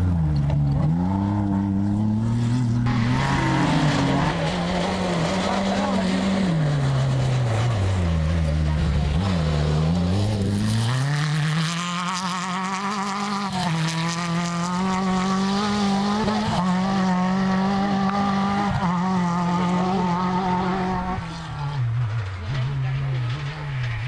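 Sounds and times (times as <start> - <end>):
rally car engine accelerating: 0.0 - 24.0.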